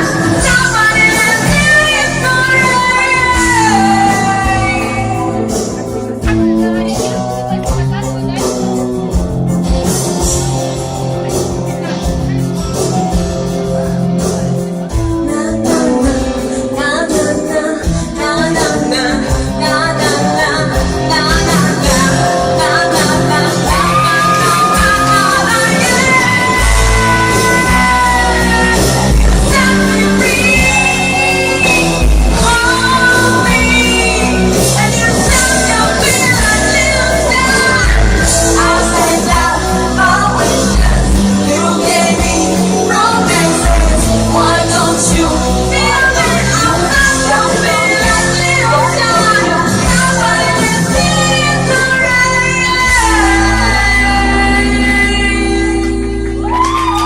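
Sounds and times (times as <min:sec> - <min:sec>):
song with band backing: 0:00.0 - 0:57.0.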